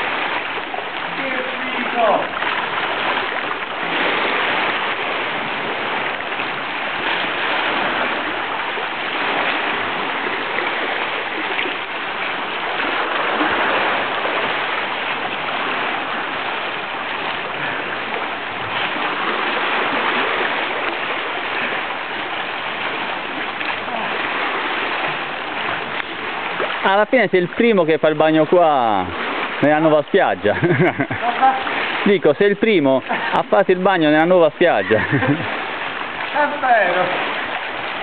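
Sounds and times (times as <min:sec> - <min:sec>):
sea water lapping at shore: 0:00.0 - 0:38.0.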